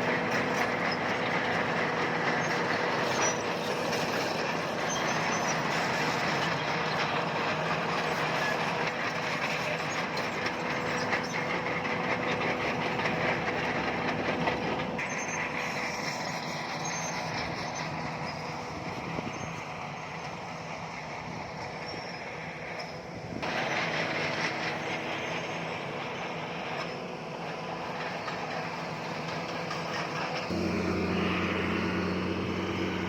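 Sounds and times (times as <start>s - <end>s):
bulldozer tracks clanking and squealing: 0.0s - 33.0s
diesel engine: 0.0s - 33.0s.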